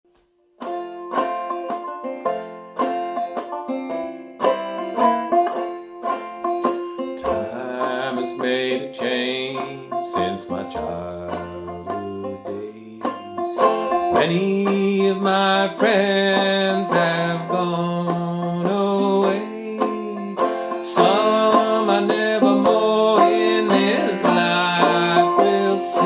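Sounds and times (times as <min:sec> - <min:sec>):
banjo plucked notes: 0:00.5 - 0:26.0.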